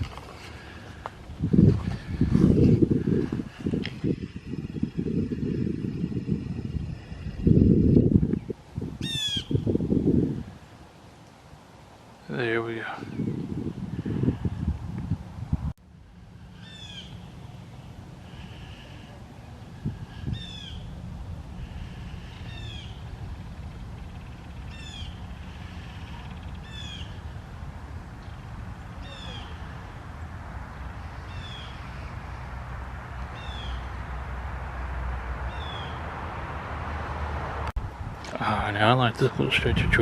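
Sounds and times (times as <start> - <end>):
steady low rumble: 0.0 - 12.3, 12.9 - 40.0.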